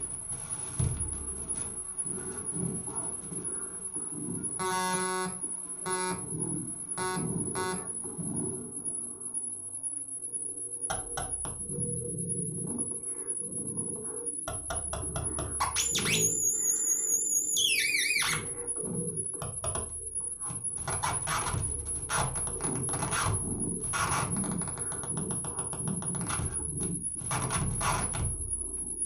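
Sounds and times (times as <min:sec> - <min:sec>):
high wavering synthesizer tone: 0:00.0 - 0:29.0.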